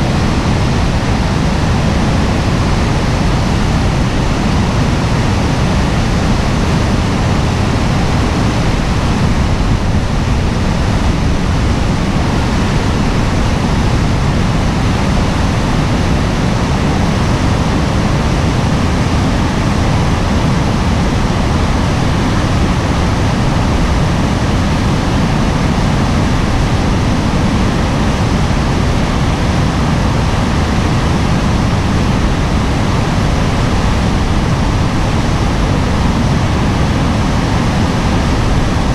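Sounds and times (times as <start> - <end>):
river rapids rushing: 0.0 - 38.9.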